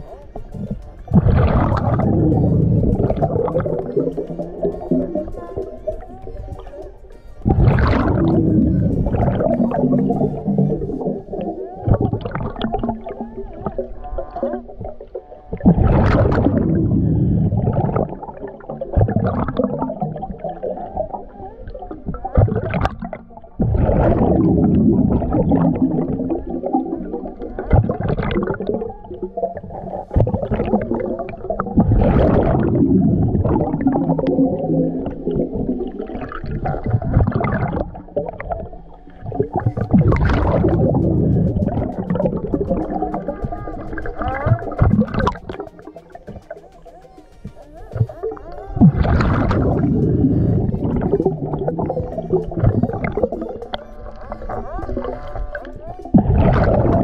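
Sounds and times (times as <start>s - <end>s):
low underwater rumble: 0.0s - 57.0s
underwater exhaled bubbles gurgling: 0.0s - 57.0s.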